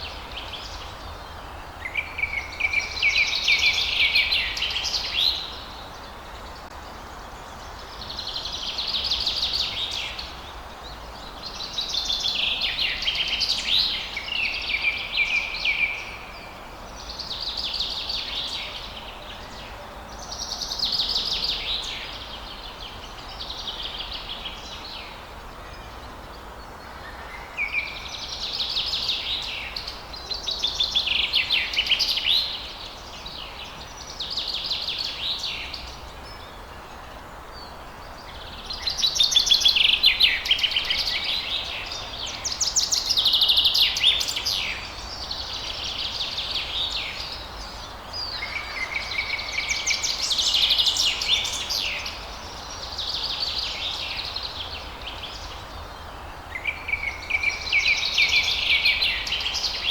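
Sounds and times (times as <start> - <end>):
faint steady hiss: 0.0 - 59.9
songbirds singing: 0.0 - 59.9.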